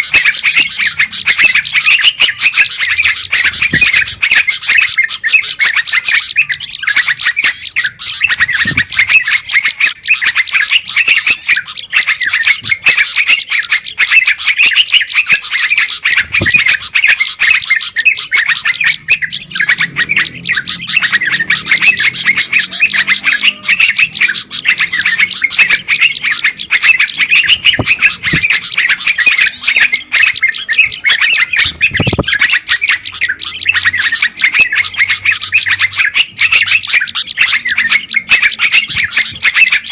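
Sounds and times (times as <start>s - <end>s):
flock of songbirds chirping: 0.0s - 39.9s.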